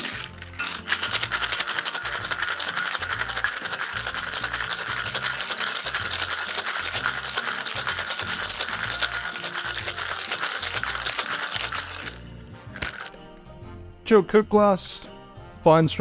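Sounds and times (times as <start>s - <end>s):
ice rattling in cocktail shaker: 0.0s - 13.2s.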